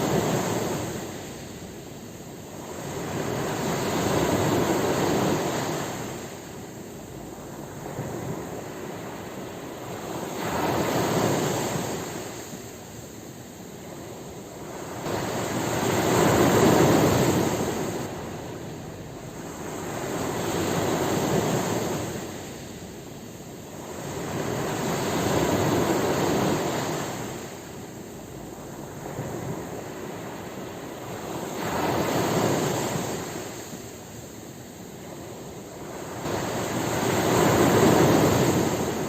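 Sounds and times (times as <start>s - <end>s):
ocean waves breaking: 2.5s - 39.0s.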